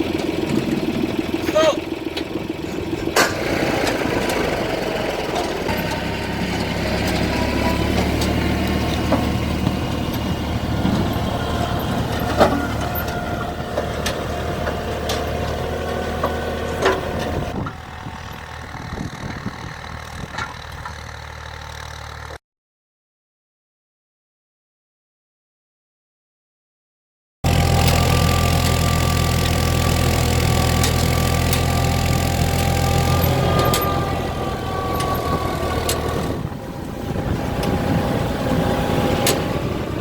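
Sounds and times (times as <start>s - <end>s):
tractor engine running: 0.0s - 22.4s, 27.4s - 40.0s.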